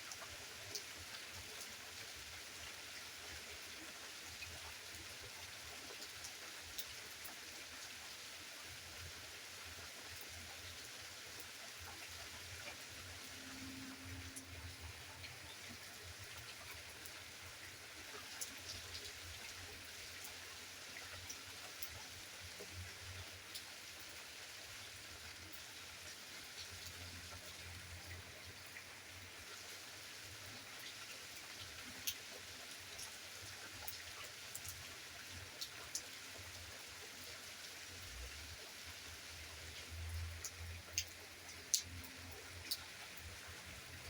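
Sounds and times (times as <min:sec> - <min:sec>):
steady rain hissing: 0:00.0 - 0:44.0.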